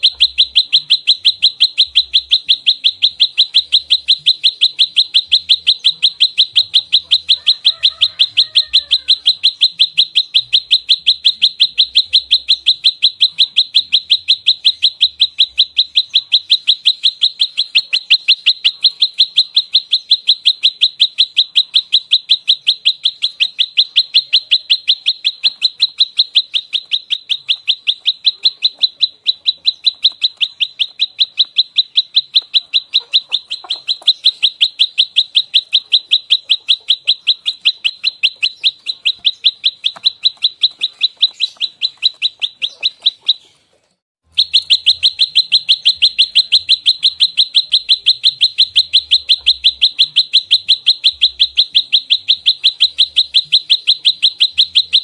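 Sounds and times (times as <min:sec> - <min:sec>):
bird giving rapid sharp chips: 0:00.0 - 0:55.0.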